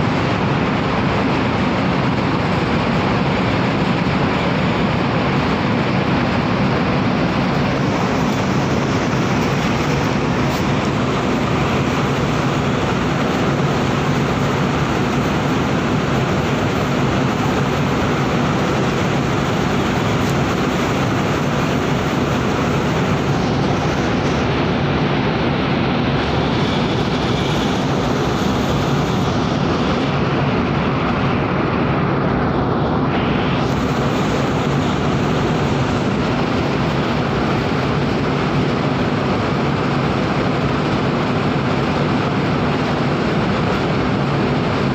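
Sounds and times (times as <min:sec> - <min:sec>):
ship engines droning: 0:00.0 - 0:44.9.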